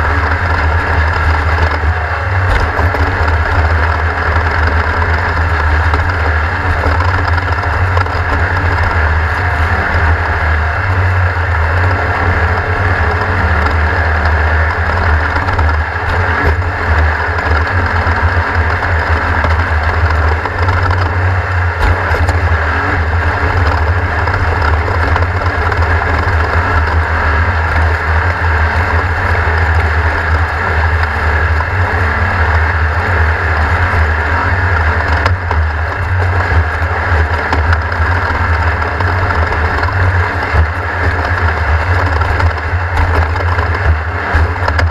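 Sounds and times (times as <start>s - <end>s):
race car engine running hard: 0.0s - 44.9s.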